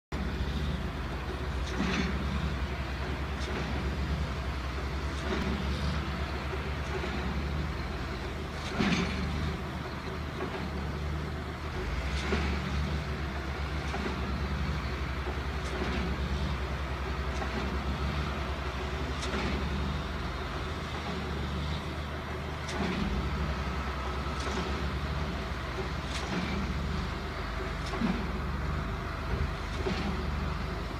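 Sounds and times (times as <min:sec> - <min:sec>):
grader diesel engine running: 0:00.1 - 0:30.9.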